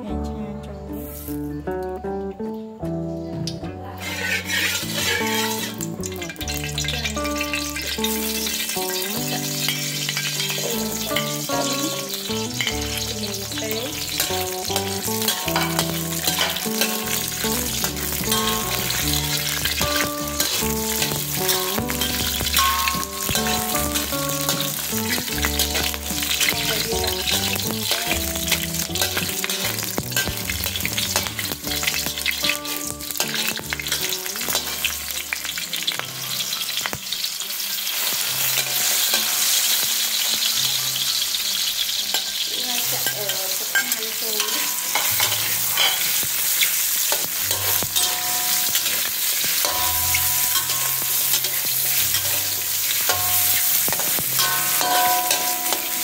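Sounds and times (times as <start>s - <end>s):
piano-like background music: 0.0s - 56.0s
metal spatula scraping wok: 4.0s - 37.2s, 40.6s - 56.0s
garlic sizzling in hot oil: 4.0s - 56.0s.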